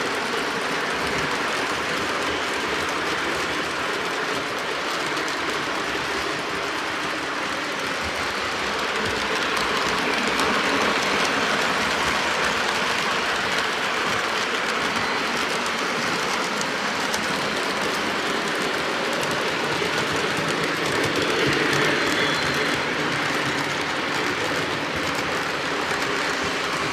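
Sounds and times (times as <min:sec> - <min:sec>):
model train wheels rumbling: 0:00.0 - 0:26.9.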